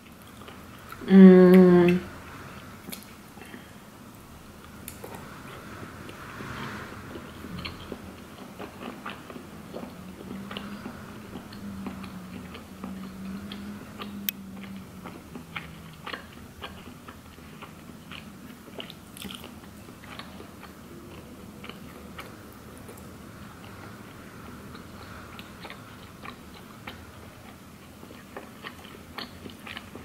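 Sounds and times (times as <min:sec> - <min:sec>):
faint low hum: 0:00.0 - 0:30.0
wet chewing: 0:04.6 - 0:30.0.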